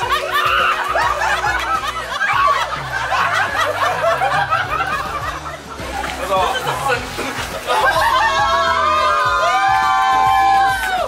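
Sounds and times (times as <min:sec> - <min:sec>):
background music: 0:00.0 - 0:11.0
people laughing and chattering: 0:00.0 - 0:11.0.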